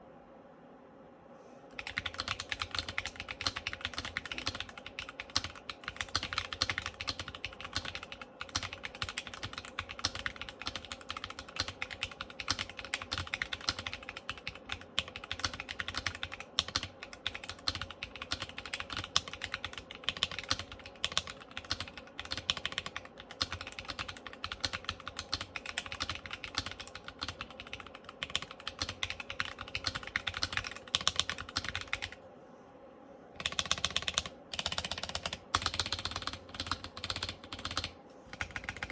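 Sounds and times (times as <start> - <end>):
mechanical keyboard typing: 1.8 - 32.2, 33.4 - 38.9.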